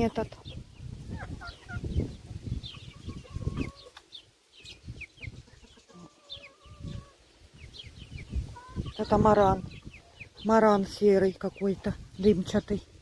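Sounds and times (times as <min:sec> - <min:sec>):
young chickens clucking and peeping: 0:00.0 - 0:13.0.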